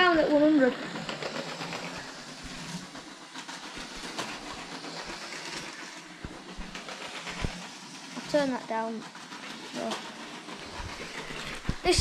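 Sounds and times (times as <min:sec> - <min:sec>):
toy train motor whirring: 0:00.0 - 0:12.0
wheels clattering over track: 0:00.0 - 0:12.0.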